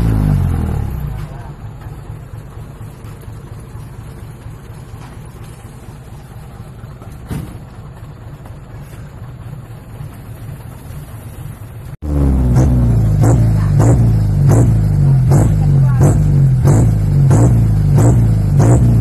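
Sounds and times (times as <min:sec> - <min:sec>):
diesel truck engine idling: 0:00.0 - 0:19.0
truck engine revving: 0:00.0 - 0:19.0.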